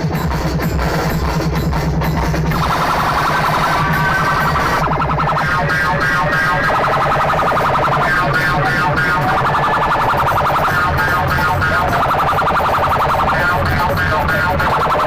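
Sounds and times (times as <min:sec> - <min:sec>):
loud dance remix music: 0:00.0 - 0:15.0.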